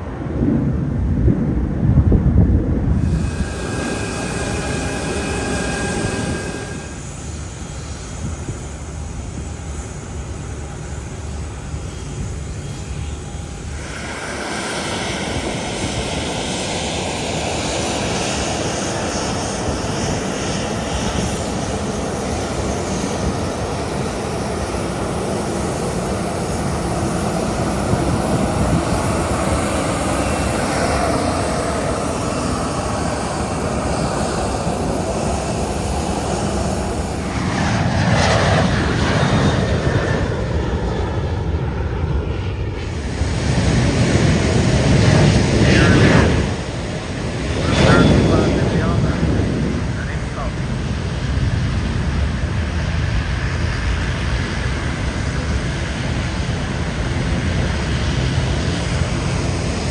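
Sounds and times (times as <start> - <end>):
airliner engines passing: 0.0 - 59.9.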